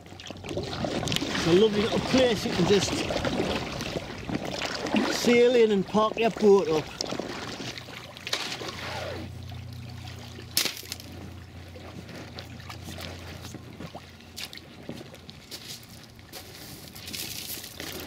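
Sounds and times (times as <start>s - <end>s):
water trickling and sloshing: 0.0s - 18.0s.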